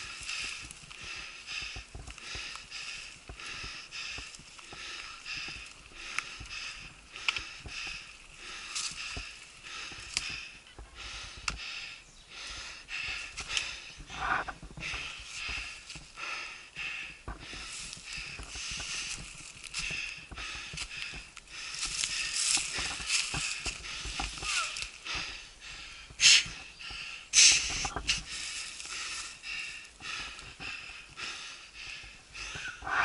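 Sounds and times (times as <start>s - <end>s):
bike tyres on dirt: 0.0s - 33.0s.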